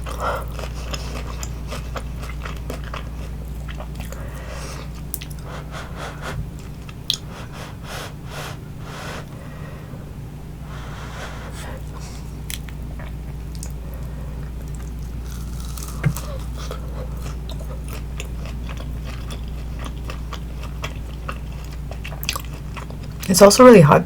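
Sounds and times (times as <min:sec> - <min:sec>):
crunchy chewing: 0:00.0 - 0:09.4, 0:11.1 - 0:23.3.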